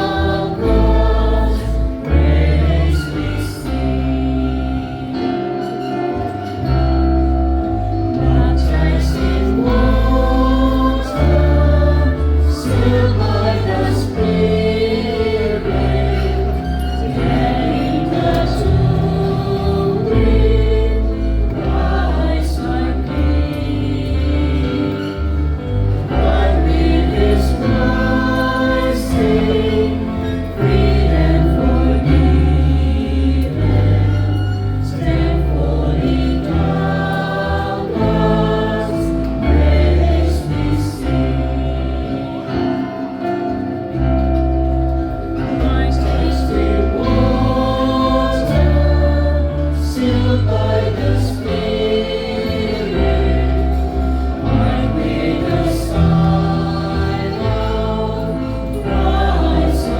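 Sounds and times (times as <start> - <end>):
choir singing a hymn: 0.0 - 59.9
instrumental accompaniment: 0.0 - 59.9.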